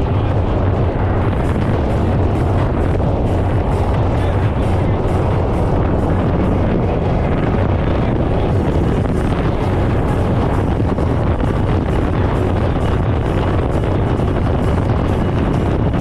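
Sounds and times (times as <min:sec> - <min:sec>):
speedboat engine drone: 0:00.0 - 0:16.0
wind buffeting microphone: 0:00.0 - 0:16.0.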